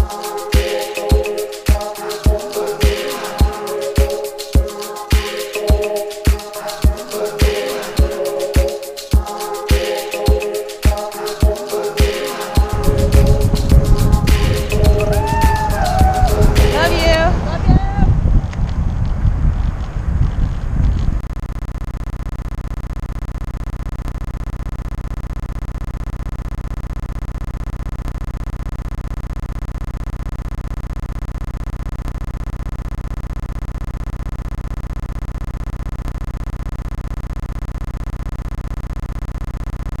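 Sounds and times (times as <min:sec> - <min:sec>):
pulsing electronic hum: 0:00.0 - 0:40.0.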